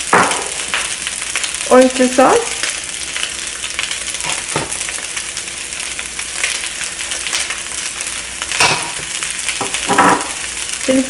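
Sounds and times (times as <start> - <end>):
rice sizzling in a pan: 0.0 - 11.0.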